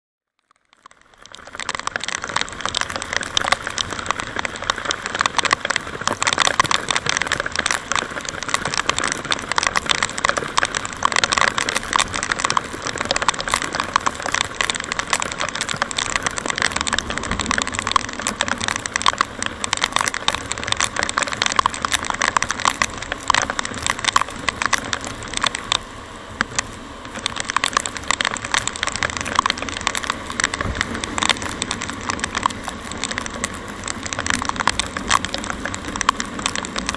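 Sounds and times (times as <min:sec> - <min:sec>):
rain striking microphone: 0:00.6 - 0:36.9.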